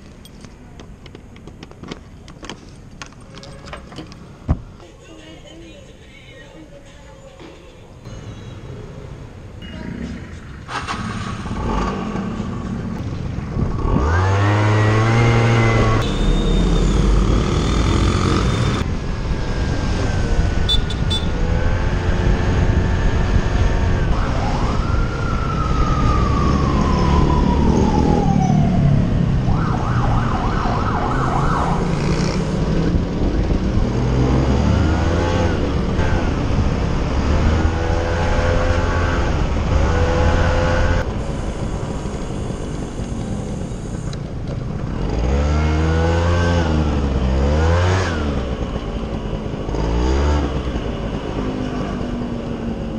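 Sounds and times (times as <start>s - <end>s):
road and wind rumble: 0.0s - 52.9s
motorcycle engine accelerating: 10.4s - 52.9s.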